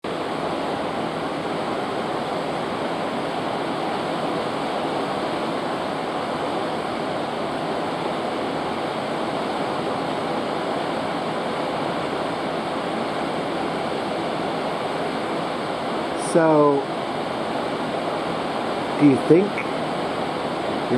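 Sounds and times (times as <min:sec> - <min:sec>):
churning sea water: 0:00.0 - 0:20.9.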